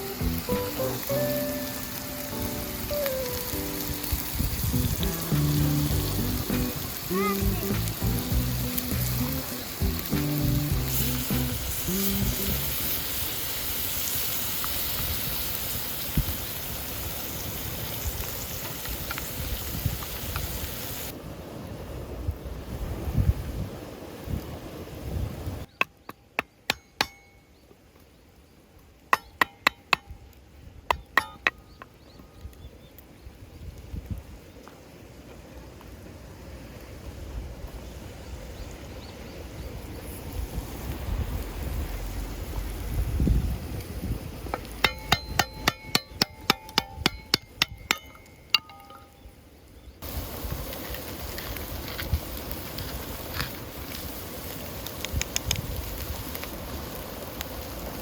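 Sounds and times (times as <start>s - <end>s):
wind hiss: 0.0s - 25.8s, 28.5s - 58.0s.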